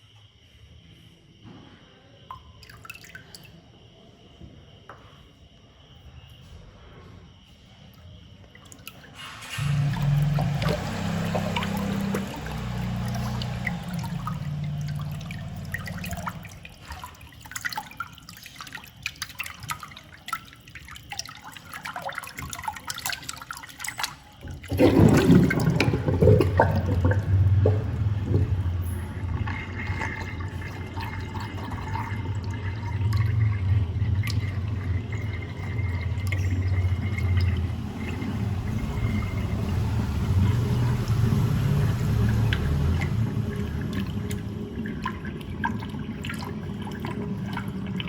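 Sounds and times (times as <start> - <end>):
water dripping and trickling: 2.2 - 4.3, 7.7 - 48.0
water rushing down drain: 8.6 - 48.0.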